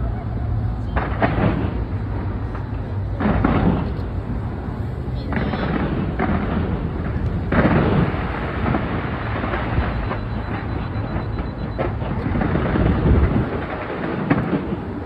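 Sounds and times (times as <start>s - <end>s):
fireworks rumbling and crackling: 0.0s - 15.0s
heavy firework boom: 0.9s - 15.0s.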